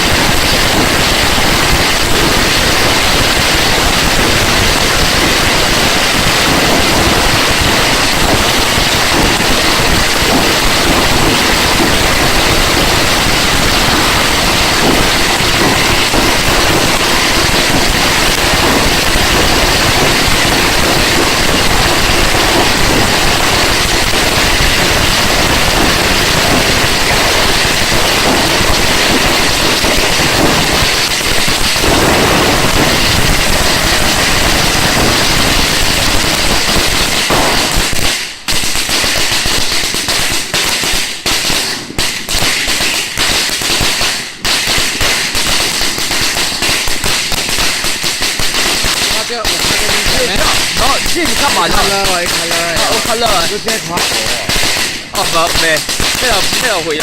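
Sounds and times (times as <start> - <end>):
firecrackers crackling: 0.0 - 57.0.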